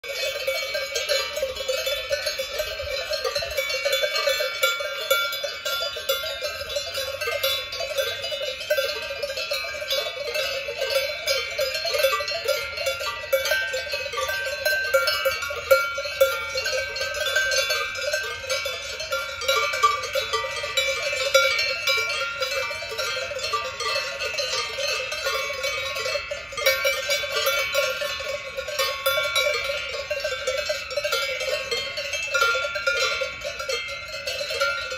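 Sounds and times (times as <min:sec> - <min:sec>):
cowbells clanking: 0:00.0 - 0:34.9.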